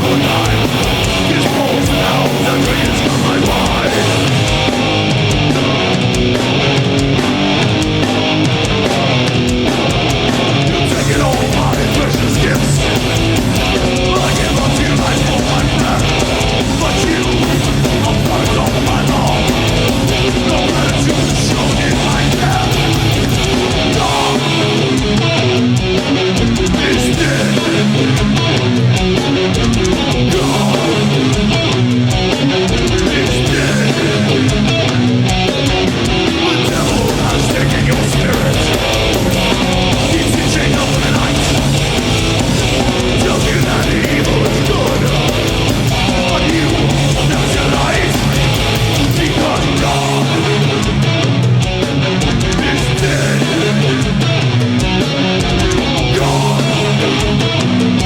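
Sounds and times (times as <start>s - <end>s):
bass guitar: 0.0s - 58.0s
distorted electric guitar riffs: 0.0s - 58.0s
pounding drums: 0.0s - 58.0s.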